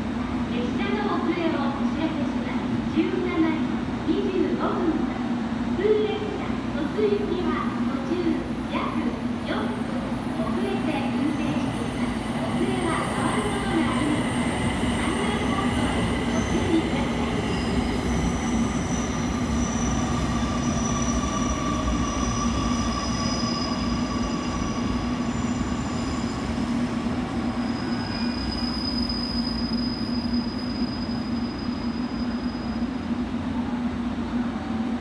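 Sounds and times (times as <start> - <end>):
electric train humming: 0.3 - 28.6.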